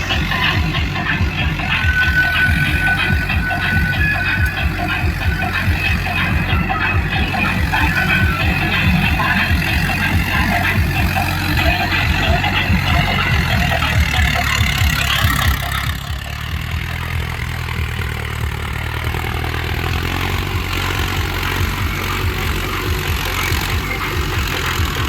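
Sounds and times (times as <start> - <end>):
rotavator mechanical clatter: 0.0 - 25.0
tractor diesel engine running: 0.0 - 25.0.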